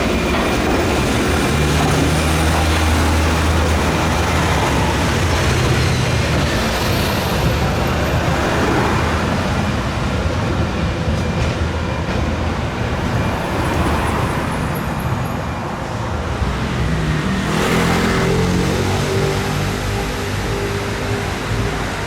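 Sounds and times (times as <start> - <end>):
passing traffic rumble: 0.0 - 22.0.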